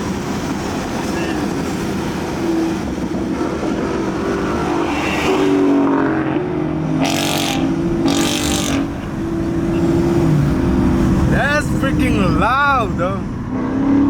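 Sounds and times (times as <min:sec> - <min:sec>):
car engine through exhaust: 0:00.0 - 0:14.0.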